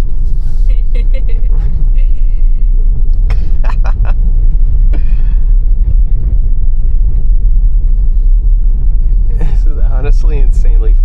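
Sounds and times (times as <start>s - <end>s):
car tyres rumbling over snow: 0.0s - 11.0s.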